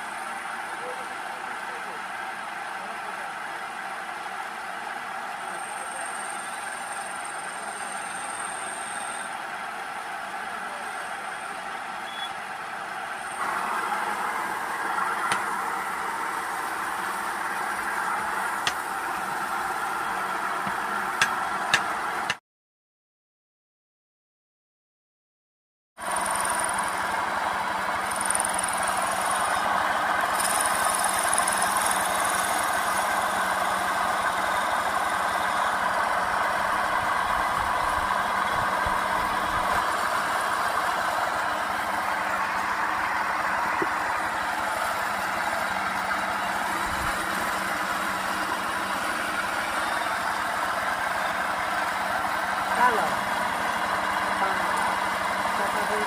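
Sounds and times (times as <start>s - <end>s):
lathe motor hum: 0.0s - 22.4s, 26.0s - 56.0s.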